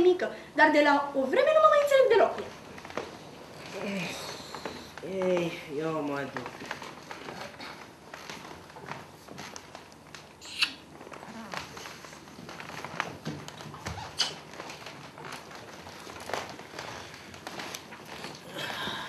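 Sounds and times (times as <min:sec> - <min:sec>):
shuffling and rustling: 0:01.4 - 0:18.6.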